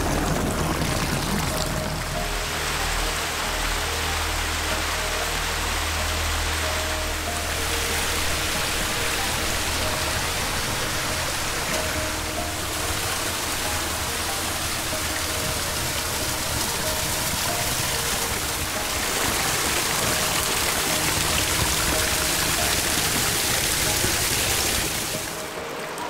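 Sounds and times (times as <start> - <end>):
small waterfall rushing: 0.0 - 26.0.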